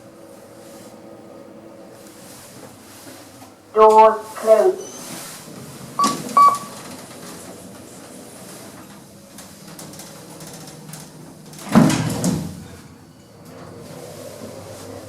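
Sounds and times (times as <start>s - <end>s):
faint lift hum: 0.0s - 15.0s.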